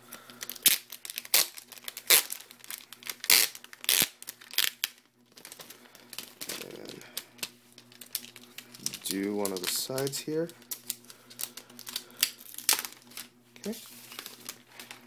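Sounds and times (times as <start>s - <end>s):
plastic wrapping crinkling and tearing: 0.1s - 15.0s.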